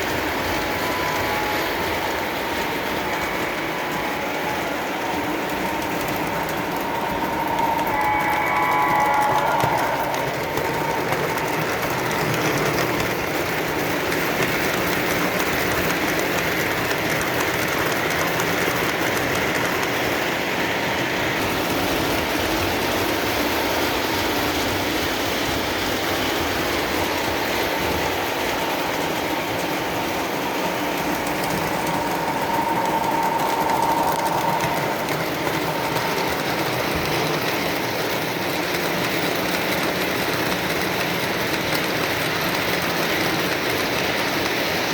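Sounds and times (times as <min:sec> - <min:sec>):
model train wheels rumbling on rails: 0:00.0 - 0:44.9.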